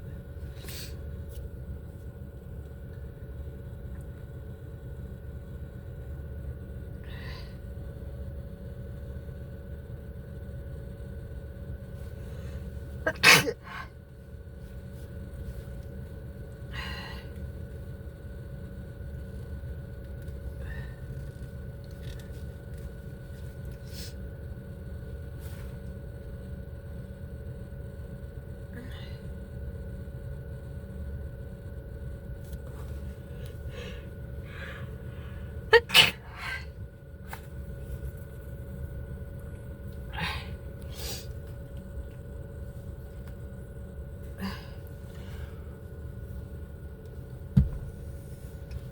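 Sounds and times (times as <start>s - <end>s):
faint steady whine: 0.0s - 48.9s
low rumble inside car: 0.0s - 48.9s.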